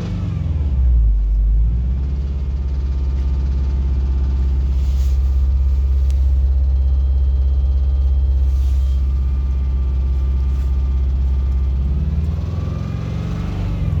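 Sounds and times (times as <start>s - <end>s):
car engine knocking: 1.7s - 13.0s.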